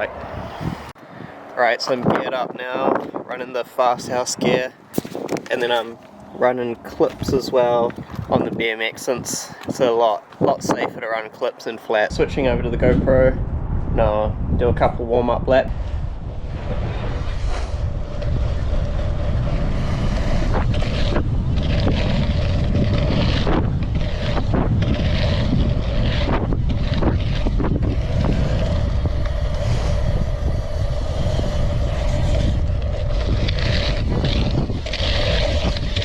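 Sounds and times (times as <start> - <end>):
bike rolling hum: 0.0 - 36.0
wind buffeting microphone: 0.0 - 36.0.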